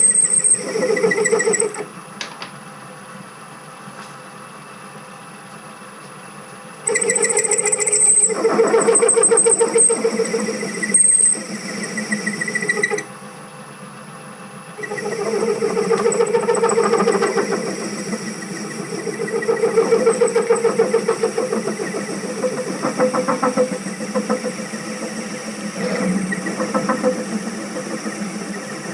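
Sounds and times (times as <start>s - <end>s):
metal lathe running with chatter: 0.0s - 3.6s, 6.6s - 28.9s.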